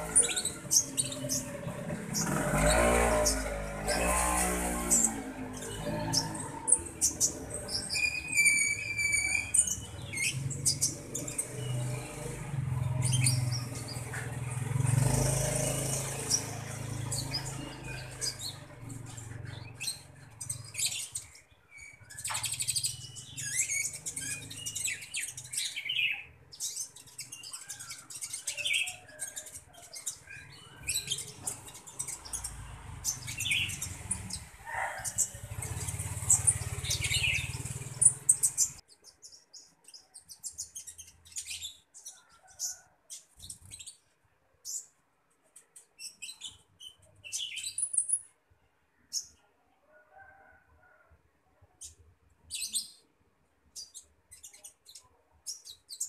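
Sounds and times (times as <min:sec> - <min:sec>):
songbird chirping: 0:00.0 - 0:51.0.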